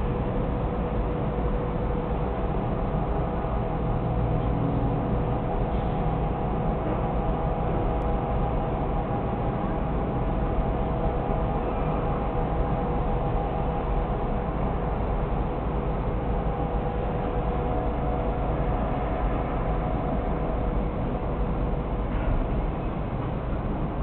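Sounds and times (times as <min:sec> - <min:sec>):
faint steady hum: 0:00.0 - 0:24.0
low rumble and hiss: 0:00.0 - 0:24.0.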